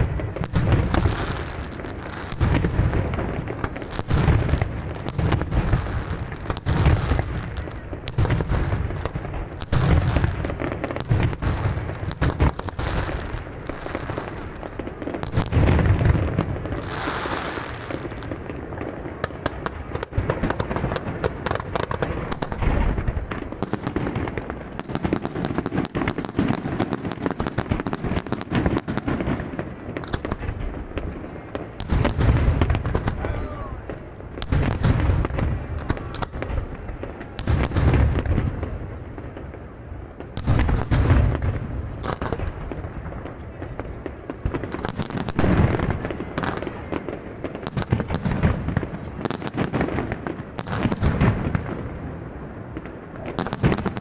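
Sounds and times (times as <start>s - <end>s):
fireworks crackling and popping: 0.0s - 54.0s
fireworks low booms: 0.0s - 54.0s.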